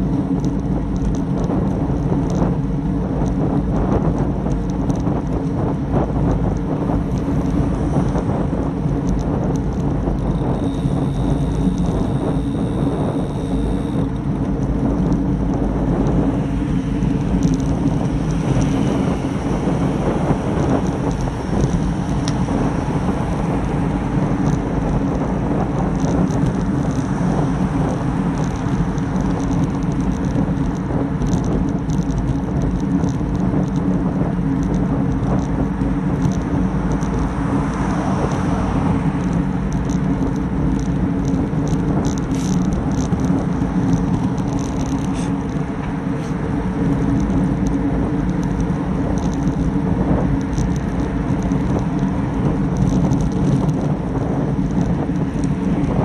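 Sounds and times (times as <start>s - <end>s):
cars passing: 0.0s - 56.0s
road noise: 0.0s - 56.0s
small ticking rattles: 0.0s - 56.0s
wind rush: 0.0s - 56.0s.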